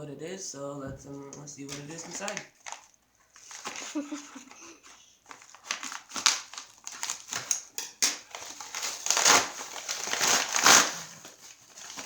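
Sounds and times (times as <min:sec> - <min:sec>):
packaging crinkling and rustling: 0:01.7 - 0:12.0.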